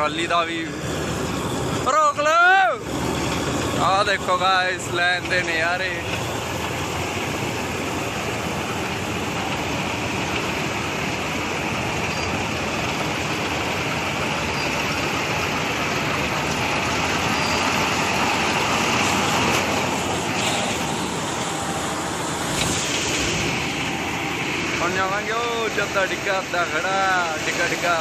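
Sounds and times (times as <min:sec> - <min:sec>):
combine harvester droning: 0:00.0 - 0:28.0
grain pouring hiss: 0:05.5 - 0:28.0.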